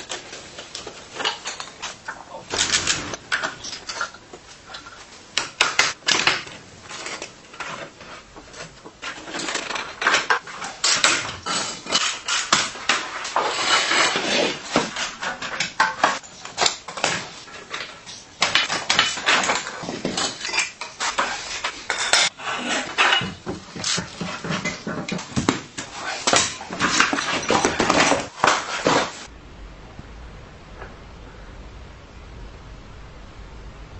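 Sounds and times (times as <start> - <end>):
metal clinking and scraping: 0.0 - 29.3.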